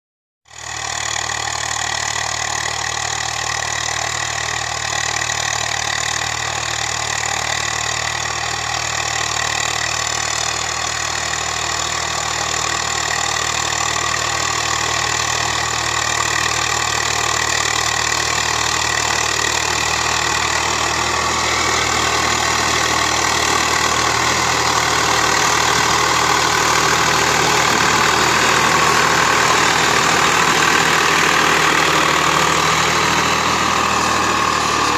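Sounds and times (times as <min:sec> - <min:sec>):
tractor diesel engine running: 0:00.5 - 0:34.9.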